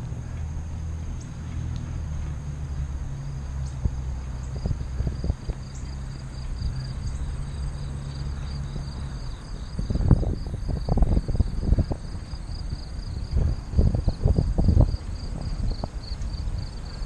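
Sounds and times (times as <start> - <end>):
crickets chirping: 0.0 - 17.0
low rumbling on microphone: 0.0 - 17.0
low steady hum: 0.0 - 17.0.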